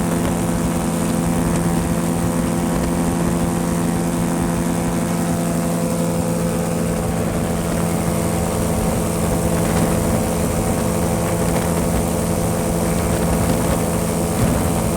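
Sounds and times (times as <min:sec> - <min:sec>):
airplane engine and propeller: 0:00.0 - 0:14.9.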